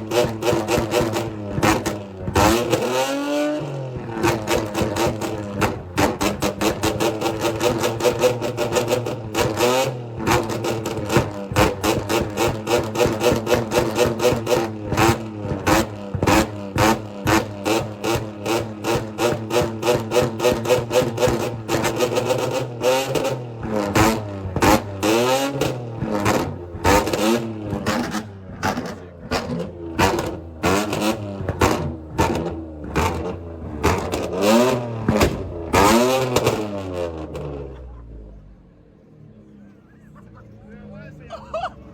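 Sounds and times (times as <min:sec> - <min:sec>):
car engine revving hard: 0:00.0 - 0:37.8
exhaust pops and bangs: 0:00.1 - 0:02.9, 0:04.0 - 0:37.5.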